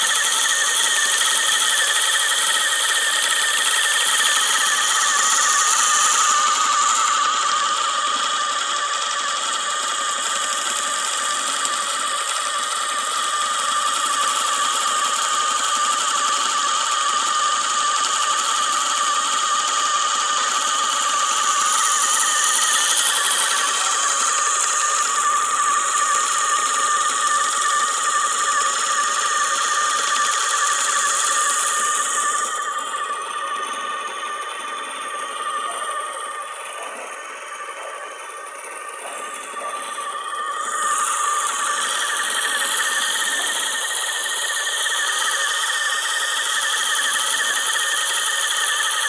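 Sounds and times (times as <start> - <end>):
yarn machine high whine: 0.0 - 49.0.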